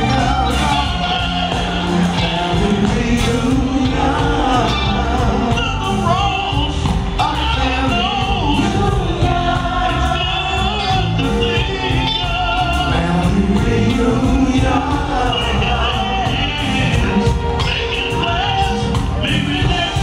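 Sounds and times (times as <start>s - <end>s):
male vocal group singing: 0.0s - 20.0s
soul band with keyboards and bass: 0.0s - 20.0s.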